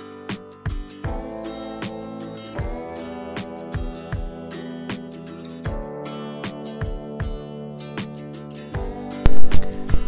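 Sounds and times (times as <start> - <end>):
plucked acoustic guitar music: 0.0 - 10.0.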